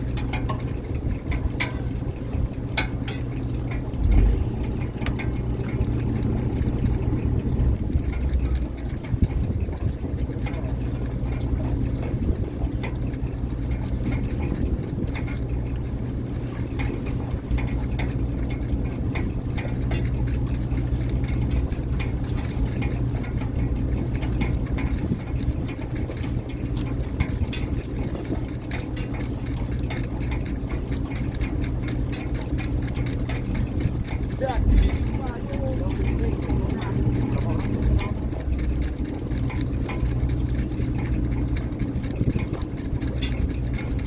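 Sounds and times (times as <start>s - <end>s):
boat engine running: 0.0s - 44.0s
irregular clicks and rattles: 0.0s - 44.0s.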